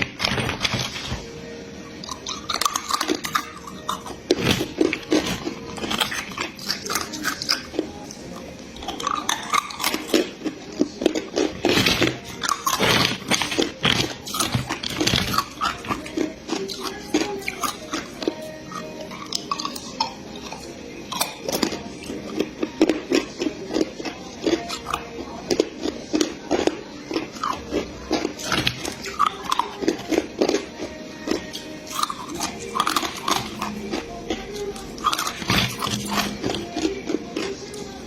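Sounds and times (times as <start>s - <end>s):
ice crunching while chewed: 0.0s - 1.3s, 1.9s - 38.0s.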